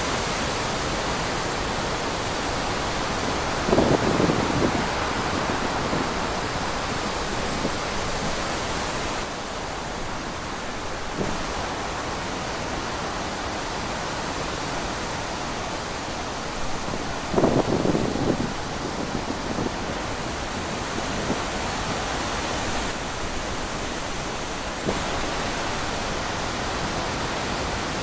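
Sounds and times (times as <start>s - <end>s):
wind rushing through trees: 0.0s - 28.0s.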